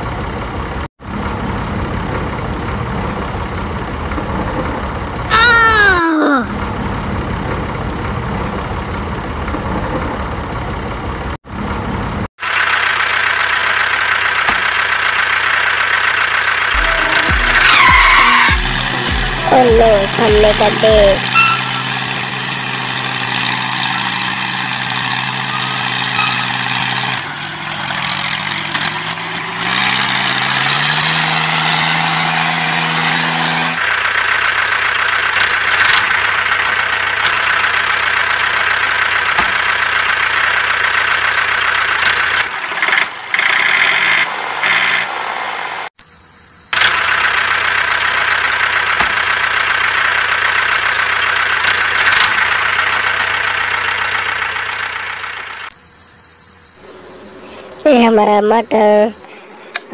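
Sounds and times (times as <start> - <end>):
tractor engine chugging: 0.0 - 5.5, 6.4 - 29.6, 33.8 - 44.1, 46.7 - 55.8.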